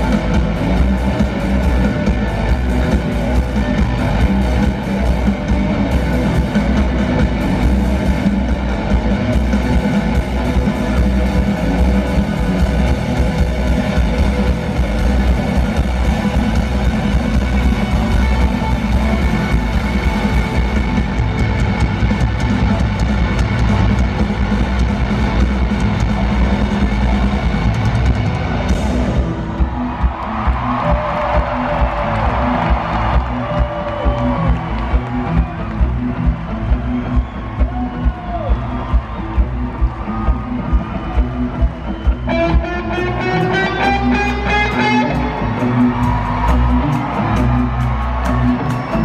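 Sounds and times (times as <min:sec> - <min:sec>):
rock band playing live: 0:00.0 - 0:49.0.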